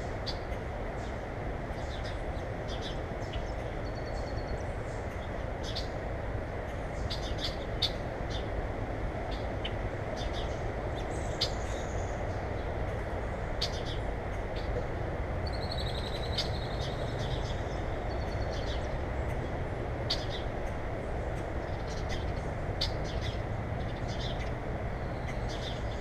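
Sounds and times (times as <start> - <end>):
small birds chirping: 0.0 - 6.0, 6.6 - 8.6, 9.3 - 14.8, 15.4 - 26.0.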